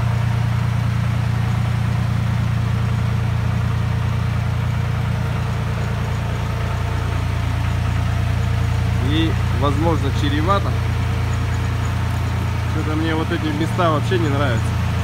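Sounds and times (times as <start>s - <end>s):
van engine running: 0.0s - 15.0s.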